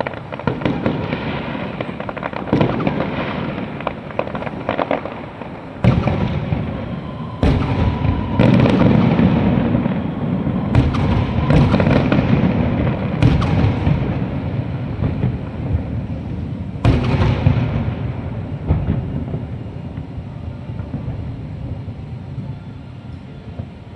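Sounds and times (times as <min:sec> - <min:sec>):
fireworks bangs: 0:00.0 - 0:23.9
fireworks rumbling and crackling: 0:00.0 - 0:23.9.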